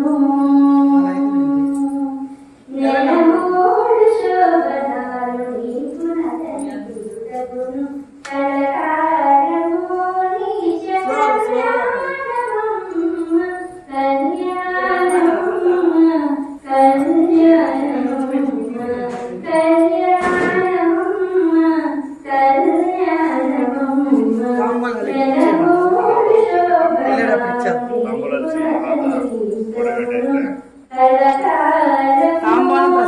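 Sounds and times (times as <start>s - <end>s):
women singing devotional song: 0.0s - 33.0s.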